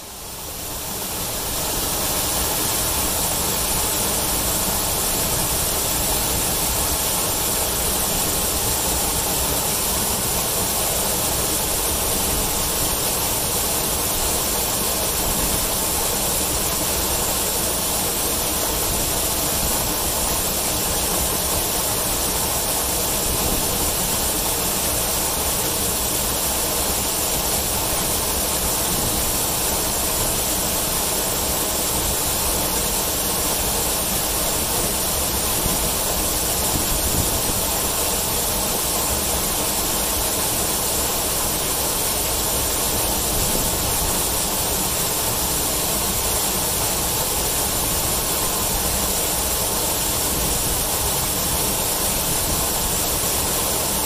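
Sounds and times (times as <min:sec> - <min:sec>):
waterfall splashing onto rocks: 0:00.2 - 0:54.0.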